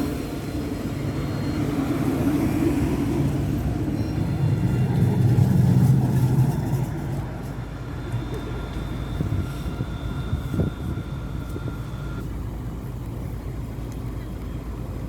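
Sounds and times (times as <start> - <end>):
thin steady whine: 0.0 - 15.0
tram passing hum: 0.0 - 15.0.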